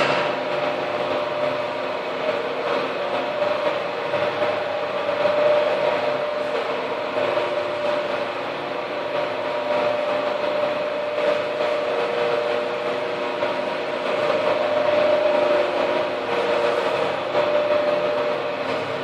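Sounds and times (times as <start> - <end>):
spin dryer motor humming: 0.0 - 19.0.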